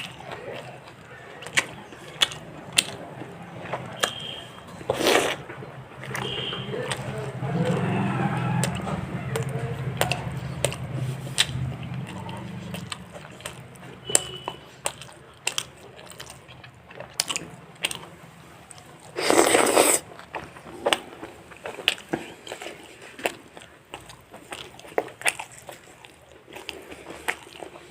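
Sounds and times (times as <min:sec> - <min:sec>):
chewing with wet clicks: 0:00.0 - 0:27.9.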